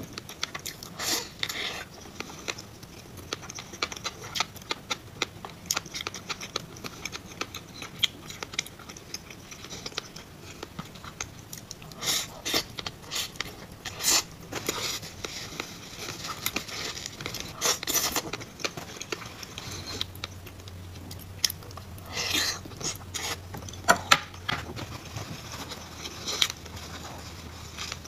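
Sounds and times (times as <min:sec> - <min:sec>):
wet chewing and mouth sounds: 0:00.0 - 0:28.0.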